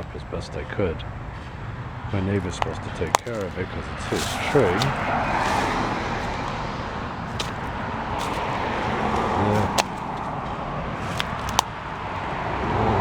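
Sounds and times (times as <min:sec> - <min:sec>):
cars going by: 0:00.0 - 0:13.0.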